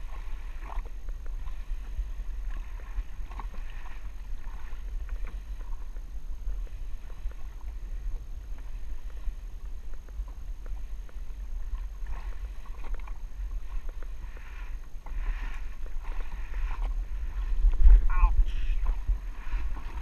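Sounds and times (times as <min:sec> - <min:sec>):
water splashing against hull: 0:00.0 - 0:20.0
wind buffeting microphone: 0:00.0 - 0:20.0.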